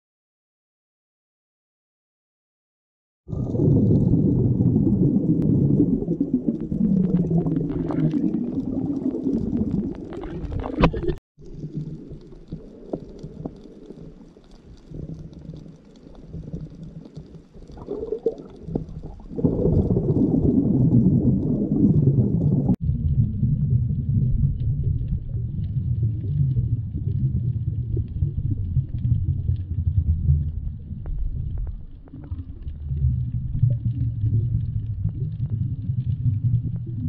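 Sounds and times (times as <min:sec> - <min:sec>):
muffled underwater water rumble: 0:03.3 - 0:37.0.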